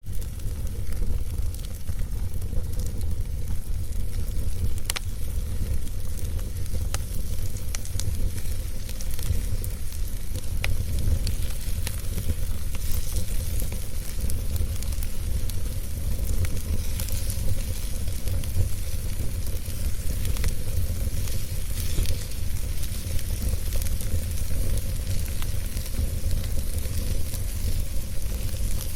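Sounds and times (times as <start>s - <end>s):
fire crackles and pops: 0.0s - 28.9s
wood fire rumbling and hissing: 0.0s - 28.9s.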